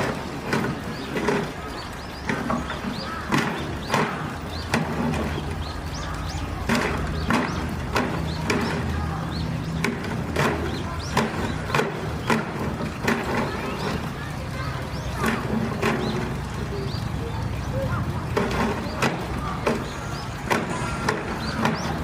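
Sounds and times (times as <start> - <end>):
sharp knocks and clicks: 0.0 - 17.0, 18.2 - 22.0
small birds chirping: 0.0 - 22.0.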